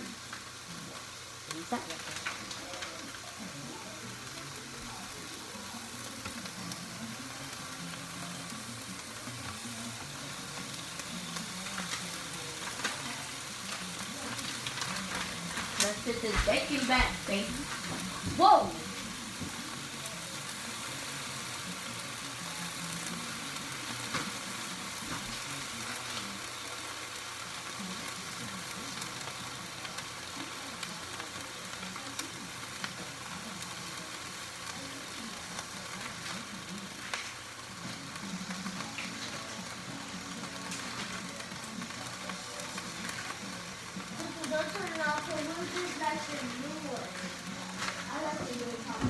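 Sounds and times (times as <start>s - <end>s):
bacon sizzling and popping: 0.0s - 49.0s.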